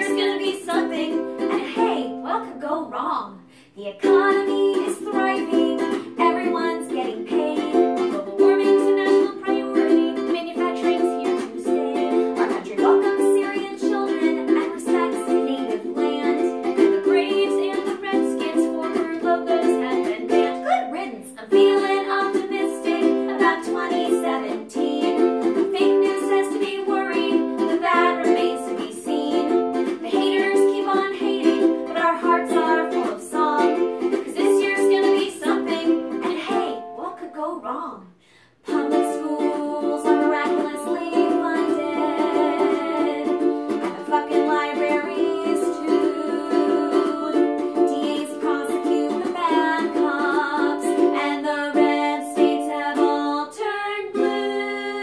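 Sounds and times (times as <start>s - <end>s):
women singing together: 0.0s - 2.6s, 3.9s - 37.4s, 38.6s - 55.0s
ukulele strumming: 0.0s - 3.2s, 3.8s - 37.9s, 38.6s - 55.0s.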